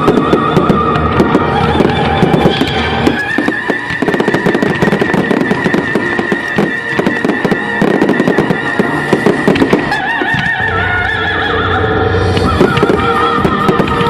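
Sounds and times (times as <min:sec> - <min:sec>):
fireworks crackling and banging: 0:00.0 - 0:11.5, 0:12.2 - 0:14.0.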